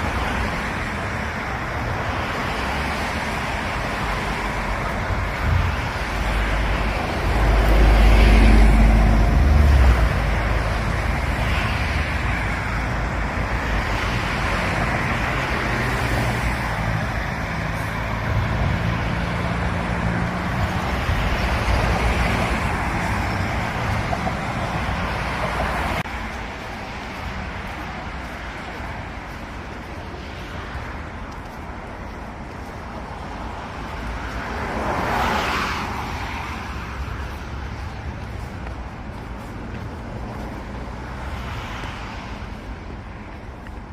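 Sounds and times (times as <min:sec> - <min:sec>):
big vehicle rumbling: 0:00.0 - 0:41.7
vehicles passing: 0:00.0 - 0:43.9.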